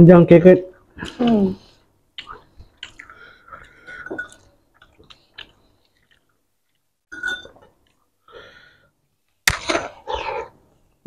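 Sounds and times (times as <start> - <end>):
people chewing food: 0.9 - 10.8.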